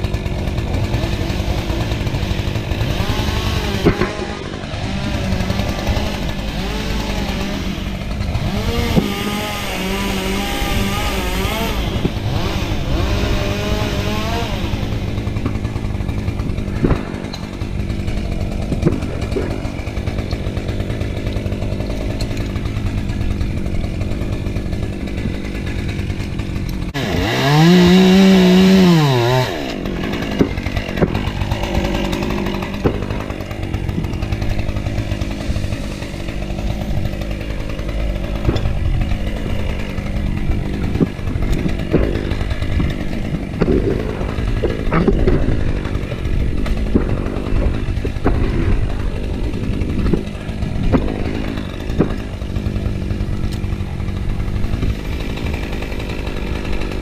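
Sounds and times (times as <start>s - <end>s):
chainsaw running: 0.0s - 57.0s.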